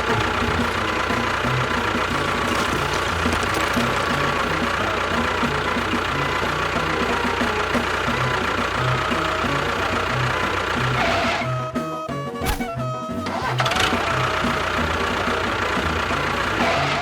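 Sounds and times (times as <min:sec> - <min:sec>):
engine with low knocking pulse: 0:00.0 - 0:17.0.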